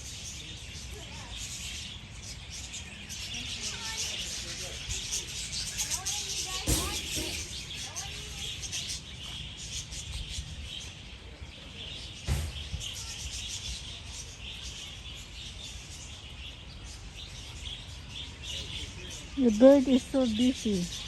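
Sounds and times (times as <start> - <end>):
budgerigars chattering: 0.1 - 21.0.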